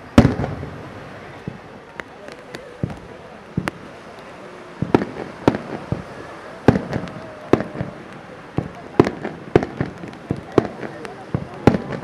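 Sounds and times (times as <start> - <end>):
fireworks booms and cracks: 0.0 - 12.0.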